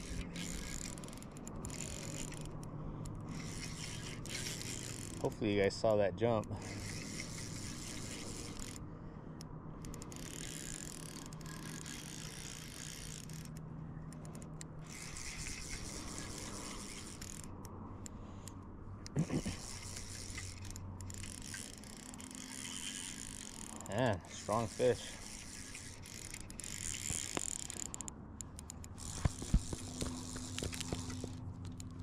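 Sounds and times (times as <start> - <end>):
fly reel drag buzzing: 0.0 - 8.9, 9.8 - 32.0.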